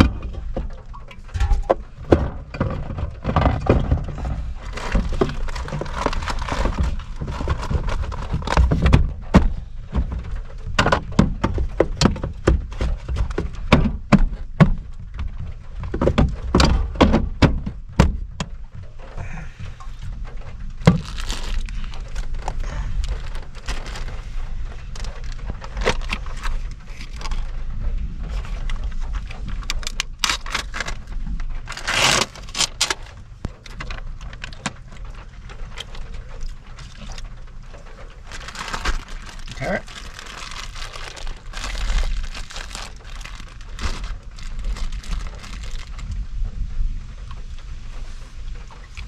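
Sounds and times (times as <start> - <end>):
rustling: 0.0 - 13.8, 18.2 - 49.0
objects knocking and thunking: 0.0 - 46.2
steady low rumble: 0.0 - 49.0.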